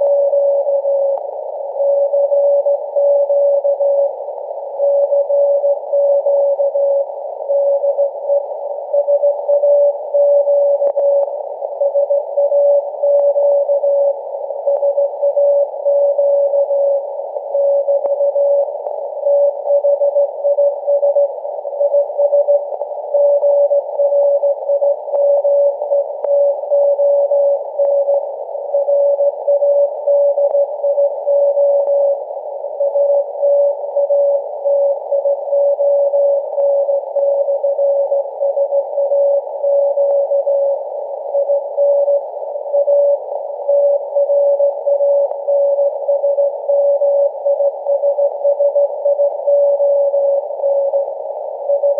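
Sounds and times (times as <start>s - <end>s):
radio hiss: 0.0s - 51.9s.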